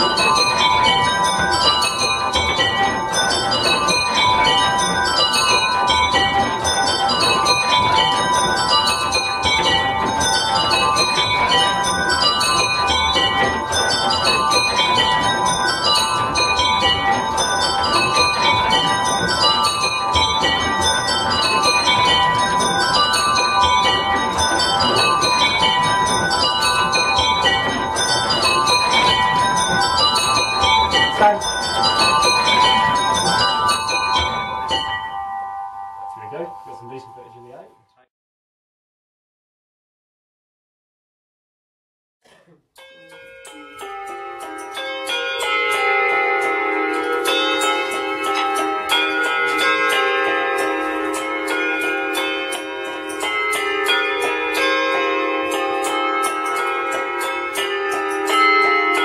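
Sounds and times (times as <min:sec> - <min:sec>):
small bells rung in changes: 0:00.0 - 0:38.0, 0:42.8 - 0:59.0.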